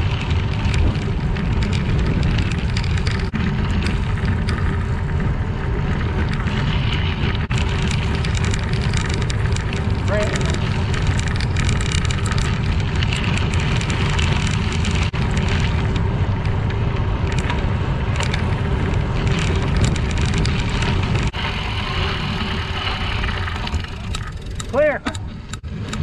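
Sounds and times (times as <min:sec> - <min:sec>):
bicycle tyres crunching on gravel: 0:00.0 - 0:24.8
wind rumbling on microphone: 0:00.0 - 0:26.0.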